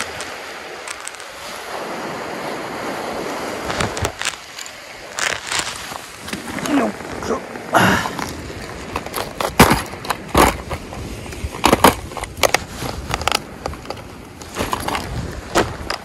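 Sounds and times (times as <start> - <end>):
fishing gear and clothing handling: 0.0 - 16.0.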